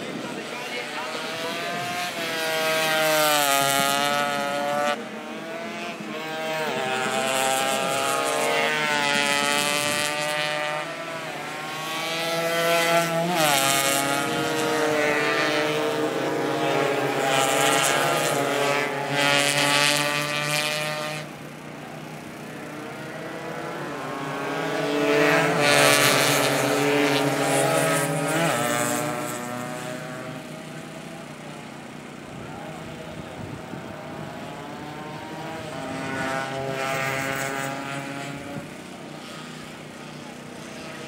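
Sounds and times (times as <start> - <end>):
motorcycles passing at full throttle: 0.0 - 41.0.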